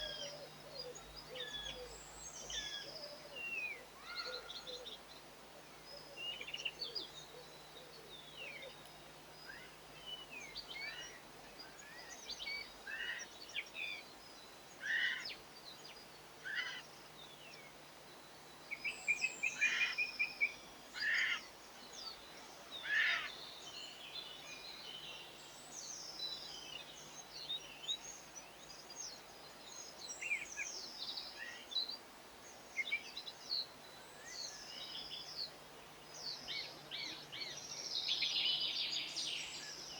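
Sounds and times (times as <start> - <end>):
garden birds chirping: 0.0 - 39.9.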